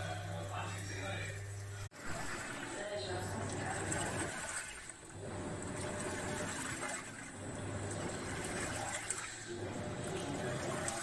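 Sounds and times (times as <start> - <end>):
washing machine motor hum: 0.0 - 11.0
washing machine water noise: 0.0 - 11.0.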